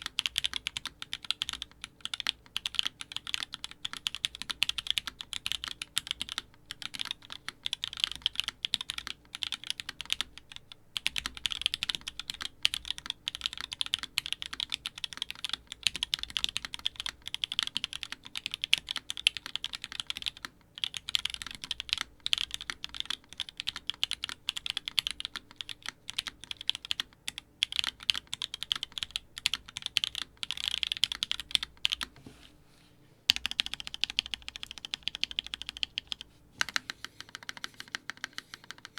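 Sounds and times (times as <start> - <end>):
fast typing on mechanical keyboard: 0.0 - 32.1, 33.3 - 38.9.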